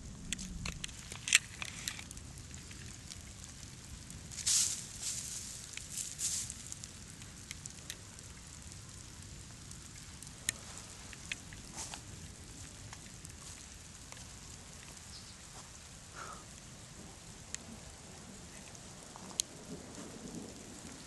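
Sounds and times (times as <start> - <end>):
hailstones crunching in a hand: 0.0 - 21.0
low steady rumble: 0.0 - 21.0
sharp clicks and crackles: 0.0 - 21.0.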